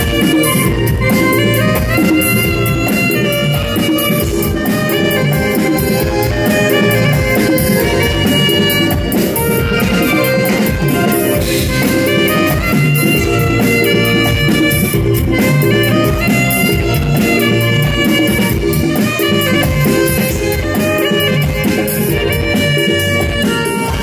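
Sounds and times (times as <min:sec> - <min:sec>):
bass guitar: 0:00.0 - 0:24.0
drum kit beat: 0:00.0 - 0:24.0
electric guitar: 0:00.0 - 0:24.0
keyboard: 0:00.0 - 0:24.0
saxophone melody: 0:00.0 - 0:24.0.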